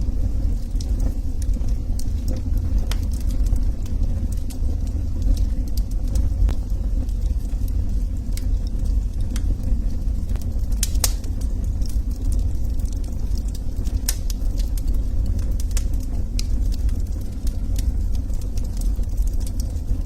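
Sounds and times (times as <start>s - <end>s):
log fire crackling and popping: 0.0s - 20.0s
low fire rumble: 0.0s - 20.0s.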